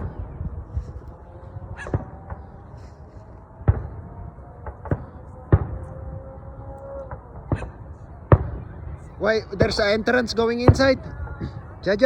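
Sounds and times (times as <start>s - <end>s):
distant fireworks bangs: 0.0s - 12.0s.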